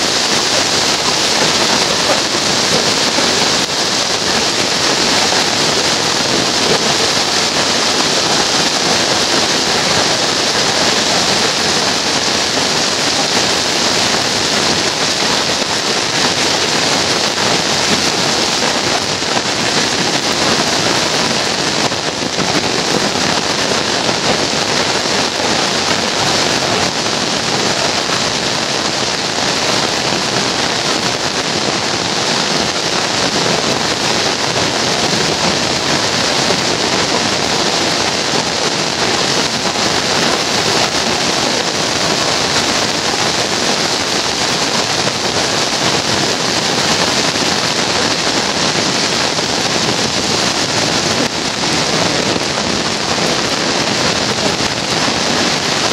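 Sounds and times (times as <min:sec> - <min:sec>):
heavy rain on pavement: 0:00.0 - 0:55.9.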